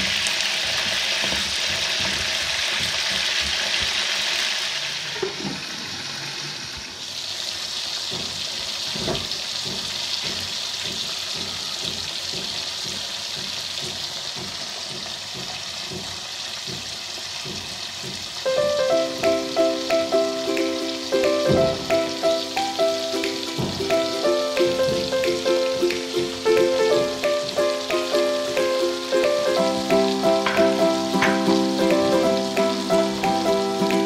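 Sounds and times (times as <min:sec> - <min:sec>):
potatoes sizzling in hot oil: 0:00.0 - 0:34.0.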